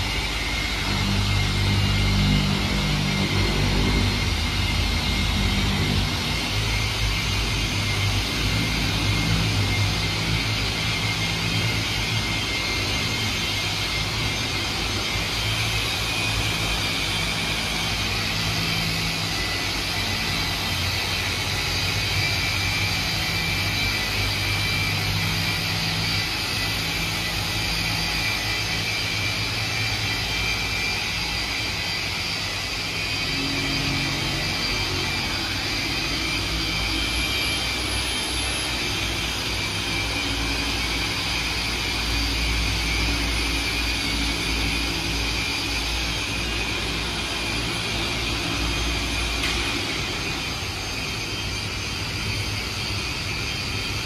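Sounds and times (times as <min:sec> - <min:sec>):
electric polishers droning: 0:00.0 - 0:54.0.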